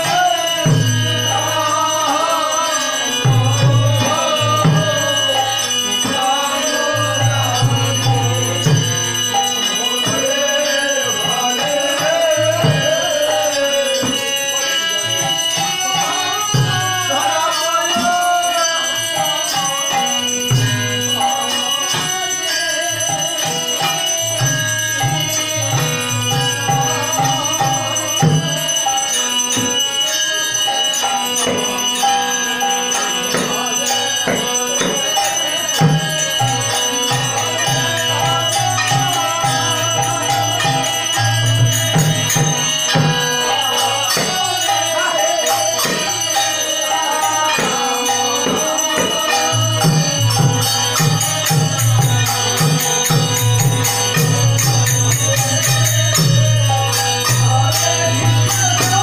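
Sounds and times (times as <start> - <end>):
percussion: 0.0 - 59.0
voices singing: 0.0 - 59.0.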